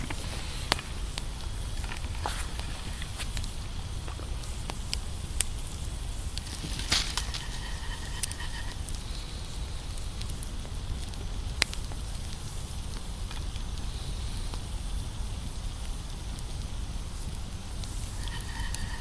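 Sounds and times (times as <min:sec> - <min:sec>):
campfire crackling and popping: 0:00.0 - 0:19.0
steady low rumble: 0:00.0 - 0:19.0.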